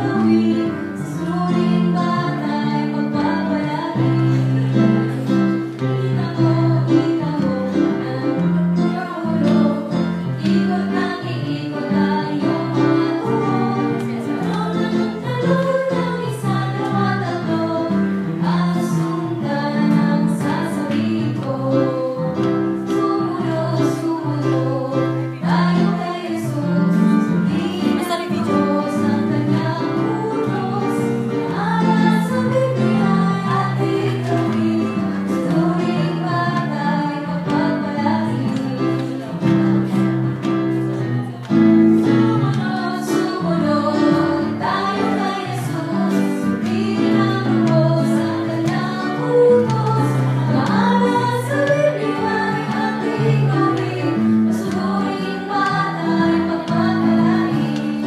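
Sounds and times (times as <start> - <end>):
women singing gospel song: 0.0 - 40.2, 41.9 - 58.0
guitar: 0.0 - 58.0.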